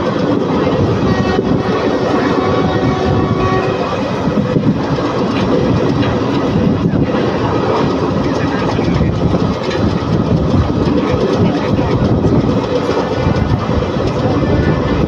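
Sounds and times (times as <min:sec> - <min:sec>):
train rumbling: 0:00.0 - 0:15.0
wheels clattering on rails: 0:00.0 - 0:15.0.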